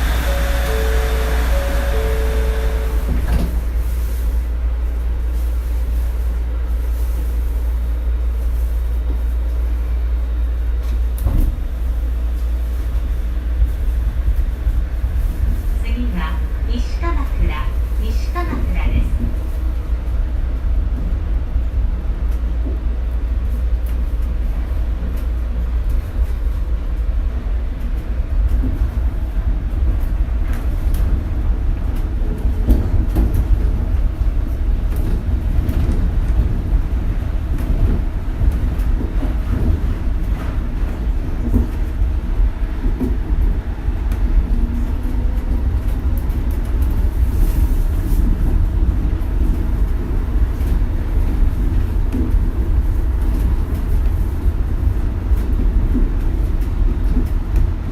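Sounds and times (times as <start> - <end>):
train low rumble: 0.0 - 57.9.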